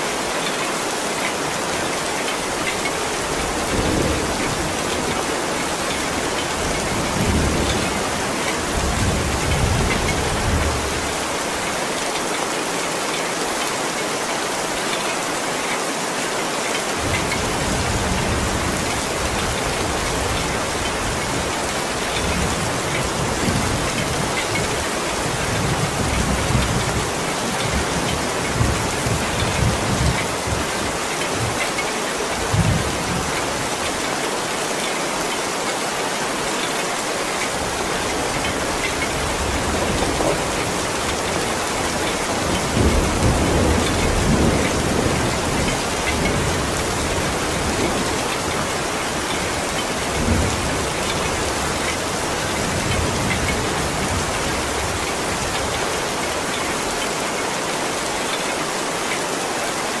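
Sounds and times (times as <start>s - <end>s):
heavy rain falling: 0.0s - 60.0s.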